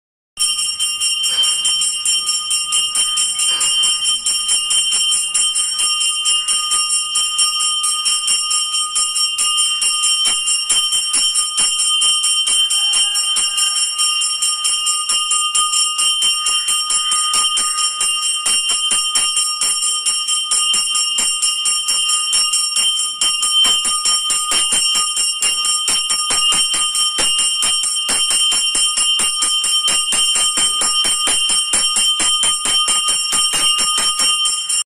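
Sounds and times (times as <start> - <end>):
temple bell ringing rapidly: 0.4 - 34.8.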